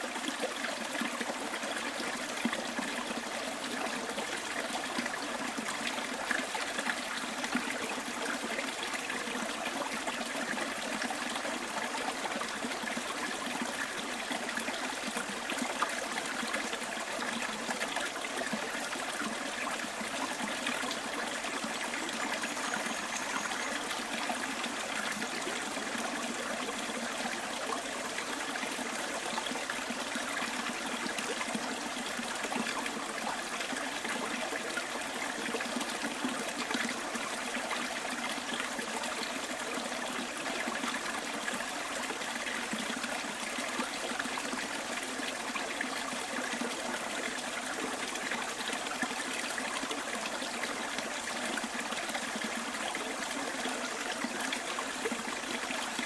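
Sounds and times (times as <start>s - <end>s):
stream trickling: 0.0s - 56.0s.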